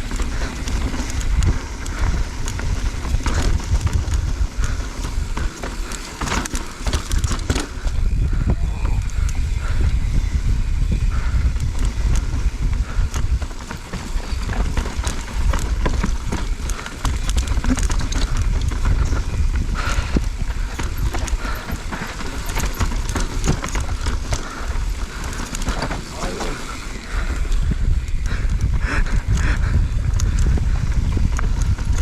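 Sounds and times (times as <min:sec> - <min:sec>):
bike frame rattling and knocking: 0:00.0 - 0:32.0
low rumble of wind: 0:00.0 - 0:32.0.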